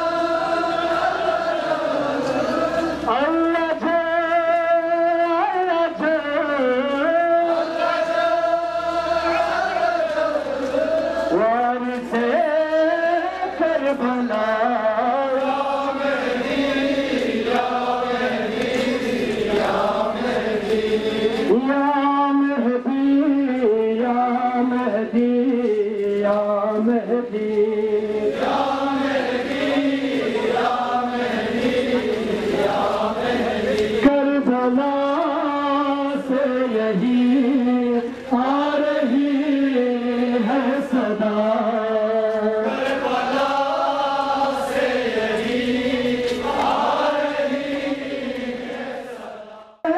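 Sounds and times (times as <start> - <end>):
men chanting over loudspeakers: 0.0 - 49.9.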